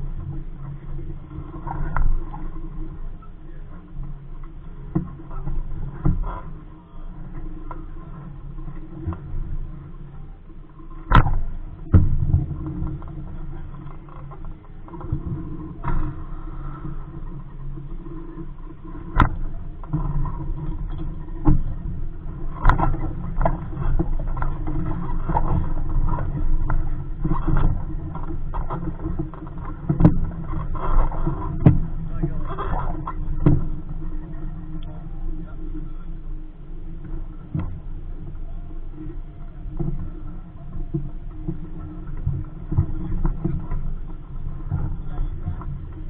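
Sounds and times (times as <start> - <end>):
boat hull knocks and clatter: 0.0 - 46.0
wind rumble on microphone: 0.0 - 46.0.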